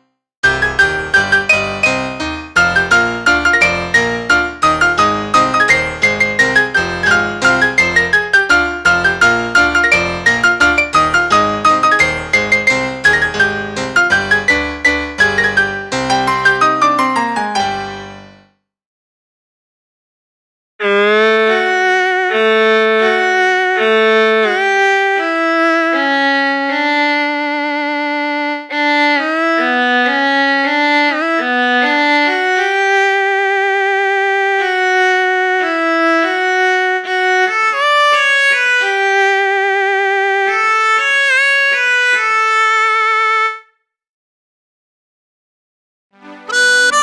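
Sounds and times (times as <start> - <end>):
synthesizer violin melody: 0.4 - 18.5, 20.8 - 43.7, 46.2 - 47.0.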